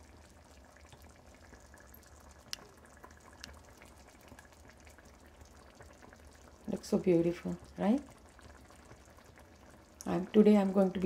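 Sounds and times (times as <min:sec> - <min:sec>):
low steady hum: 0:00.0 - 0:11.0
pot simmering with bubbling pops: 0:00.0 - 0:11.0.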